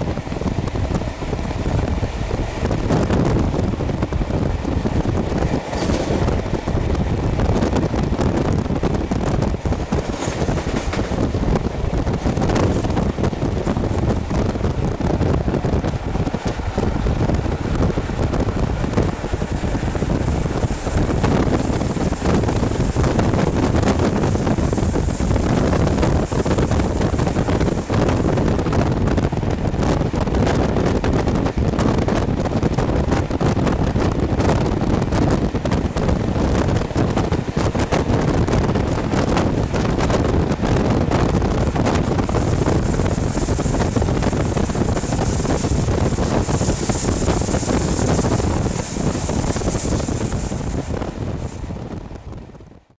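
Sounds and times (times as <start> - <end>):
train running along track: 0.0 - 52.9
wind buffeting microphone: 0.0 - 52.9.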